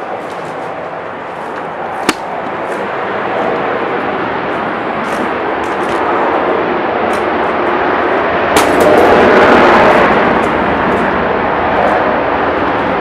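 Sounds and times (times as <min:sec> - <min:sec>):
aircraft roaring overhead: 0:00.0 - 0:13.0.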